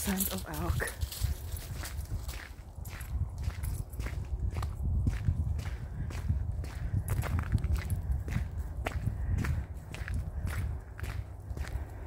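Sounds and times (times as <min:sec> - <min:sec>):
footsteps walking: 0:00.0 - 0:12.0
steady low rumble: 0:00.0 - 0:12.0.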